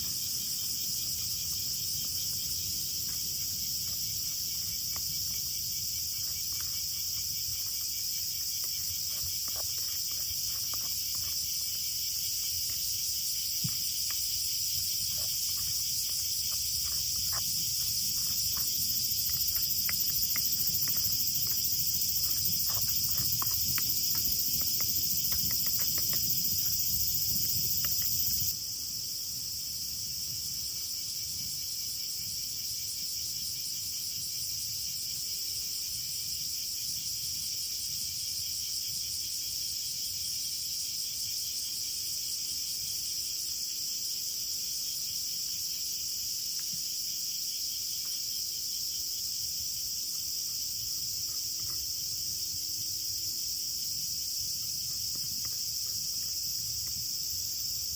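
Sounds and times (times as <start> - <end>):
insects chirping: 0.0 - 57.9.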